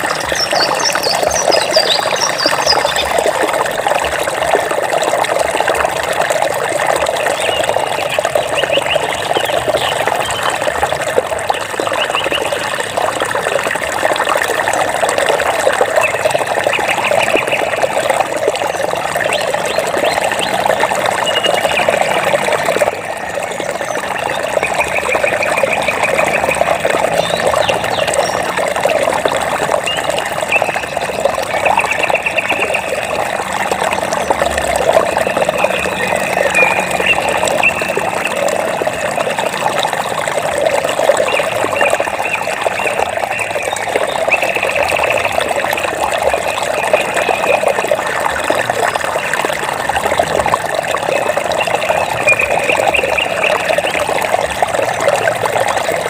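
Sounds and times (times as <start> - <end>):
flowing splashing water: 0.0 - 56.0.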